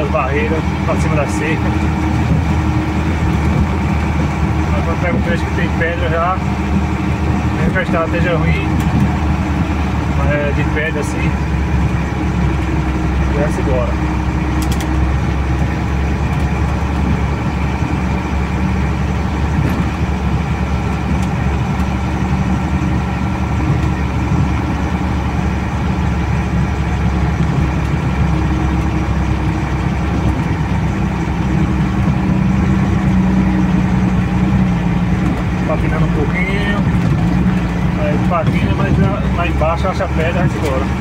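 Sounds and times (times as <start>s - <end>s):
truck engine under load: 0.0s - 41.0s.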